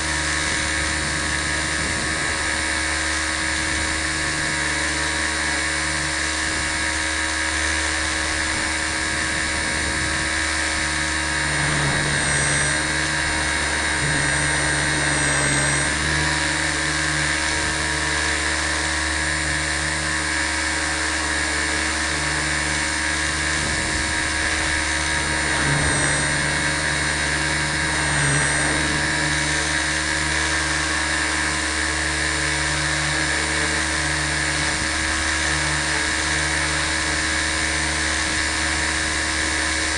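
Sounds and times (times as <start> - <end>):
rc helicopter whine: 0.0 - 39.9.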